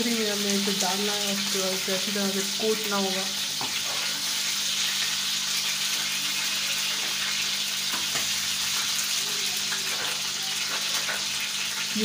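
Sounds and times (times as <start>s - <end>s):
chicken sizzling on a griddle: 0.0s - 12.0s.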